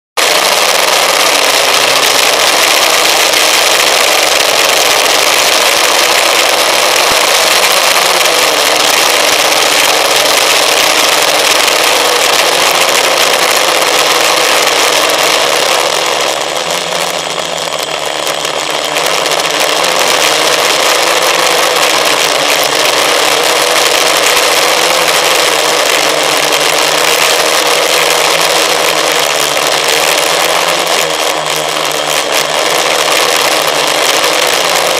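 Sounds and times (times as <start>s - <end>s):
motor and propeller whine: 0.3s - 34.9s.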